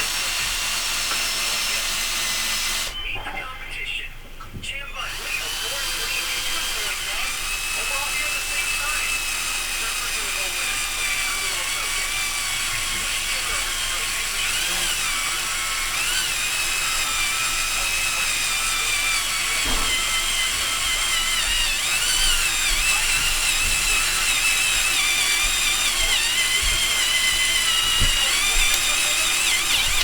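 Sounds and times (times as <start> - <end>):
cordless drill motor whining: 0.0 - 3.0, 4.9 - 30.0.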